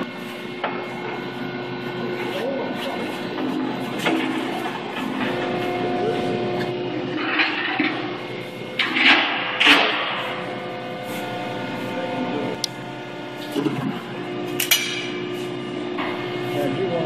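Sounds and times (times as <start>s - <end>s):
hydraulic pump humming: 0.0s - 17.0s.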